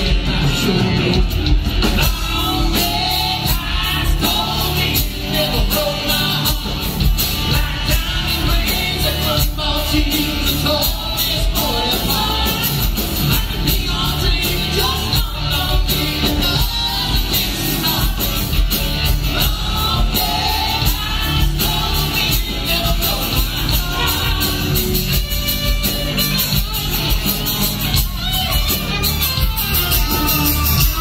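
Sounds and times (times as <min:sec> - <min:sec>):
country rock band playing live: 0:00.0 - 0:31.0.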